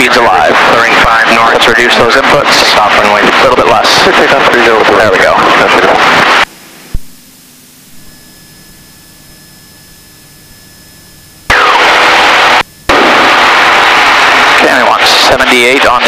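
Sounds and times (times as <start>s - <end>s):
aircraft engine rush through headset: 0.0s - 16.0s
faint steady tones: 0.0s - 16.0s.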